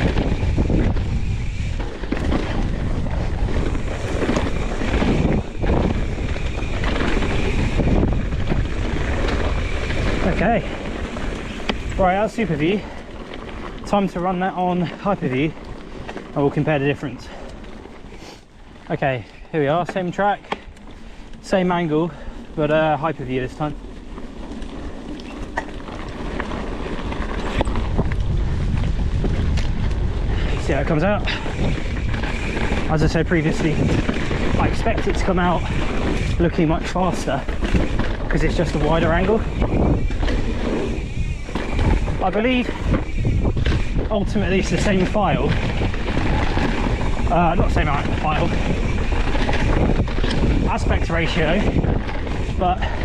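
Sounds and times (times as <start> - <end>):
rumble of bike on trail: 0.0 - 53.0
wind buffeting microphone: 0.0 - 53.0.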